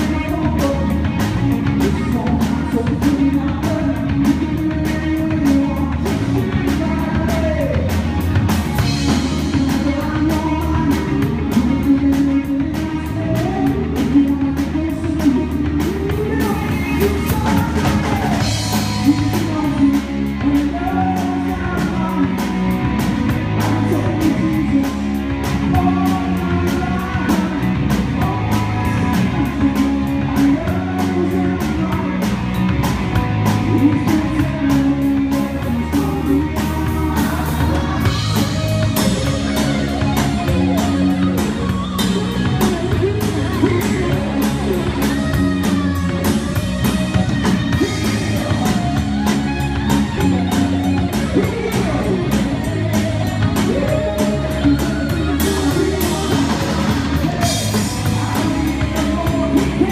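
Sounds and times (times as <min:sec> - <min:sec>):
bass guitar: 0:00.0 - 0:59.9
drum kit steady beat: 0:00.0 - 0:59.9
electric guitar: 0:00.0 - 0:59.9.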